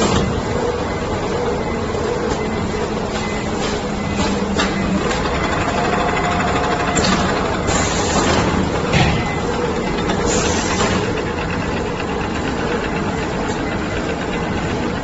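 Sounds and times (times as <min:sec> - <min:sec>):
making machine running: 0:00.0 - 0:15.0.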